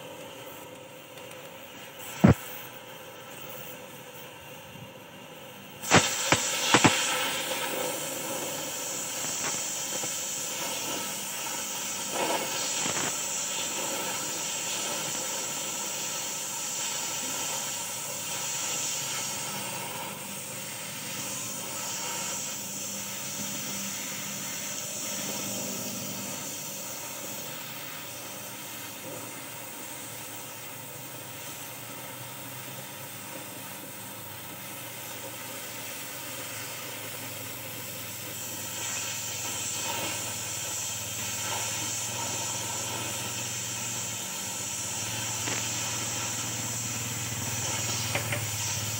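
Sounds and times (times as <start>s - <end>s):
cutting torch flame hissing: 0.0s - 48.9s
cutting torch popping: 0.1s - 32.2s, 32.9s - 48.9s.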